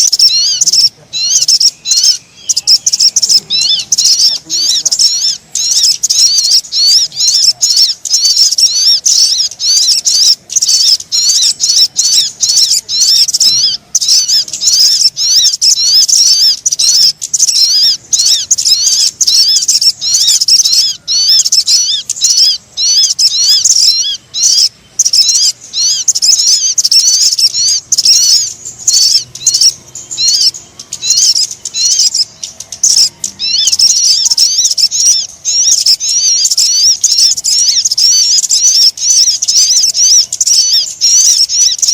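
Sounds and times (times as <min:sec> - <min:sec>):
rapid high bird chirping: 0:00.0 - 0:41.9.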